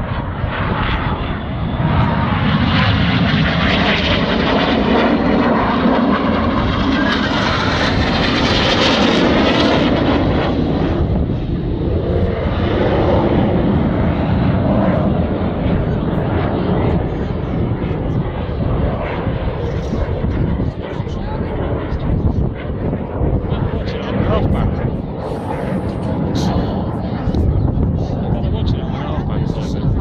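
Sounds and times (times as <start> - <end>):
jets roaring overhead: 0.0 - 30.0.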